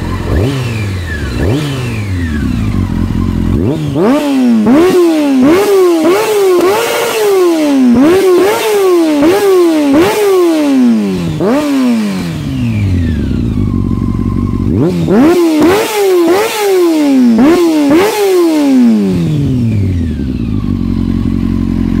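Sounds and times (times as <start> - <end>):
motorcycle engine idling: 0.0 - 22.0
motorcycle engine revving: 0.0 - 22.0.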